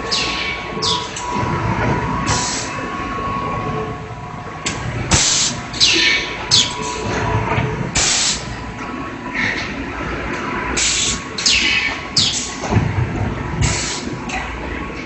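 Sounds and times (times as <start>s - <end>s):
low machine rumble: 0.0s - 15.0s.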